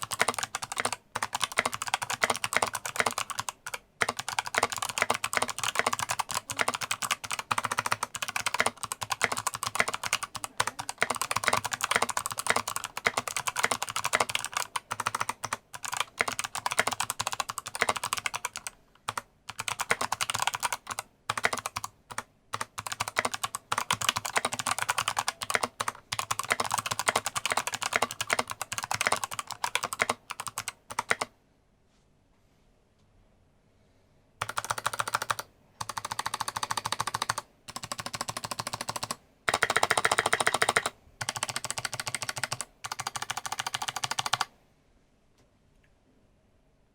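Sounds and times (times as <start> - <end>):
fast clicky keyboard typing: 0.0 - 31.3, 34.4 - 44.5.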